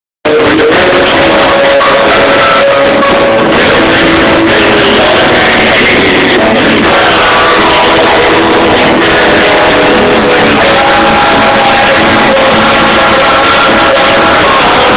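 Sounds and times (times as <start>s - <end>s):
rock music with guitar: 0.3s - 14.9s.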